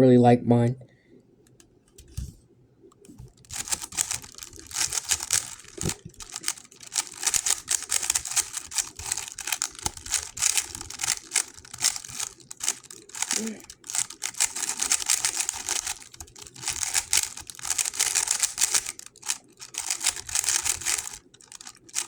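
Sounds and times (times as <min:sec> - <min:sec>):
speedcube clicking: 0:03.0 - 0:22.0.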